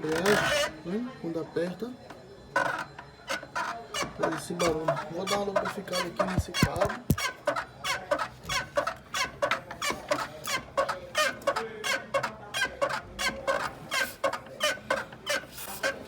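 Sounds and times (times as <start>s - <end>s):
clutch pedal squeaking: 2.6s - 16.0s.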